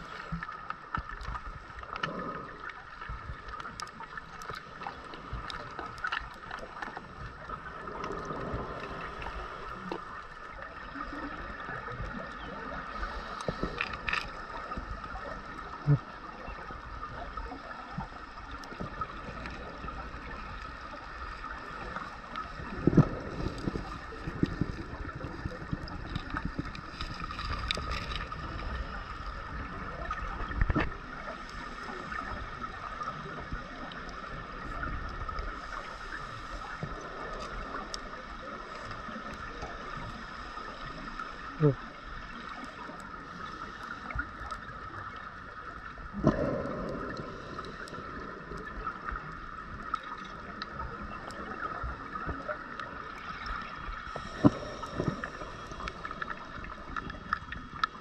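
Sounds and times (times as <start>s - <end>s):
scuba exhaust bubbles gurgling: 0.0s - 58.0s
steady underwater hiss: 0.0s - 58.0s.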